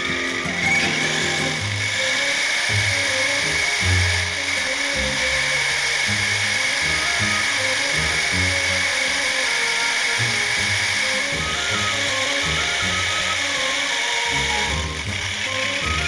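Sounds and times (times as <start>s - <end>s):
background music with stepping bass: 0.0s - 16.0s
steady high whine and hiss: 0.0s - 16.0s.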